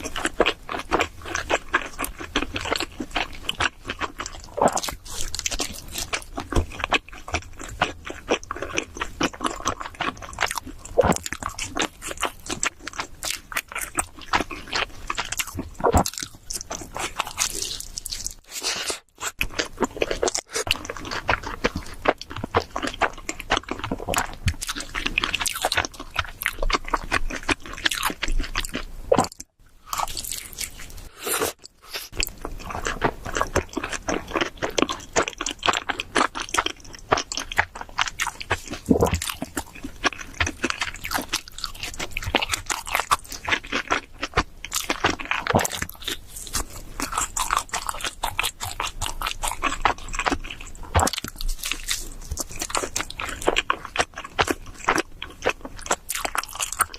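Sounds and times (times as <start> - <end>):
close eating and crunching: 0.0 - 56.9.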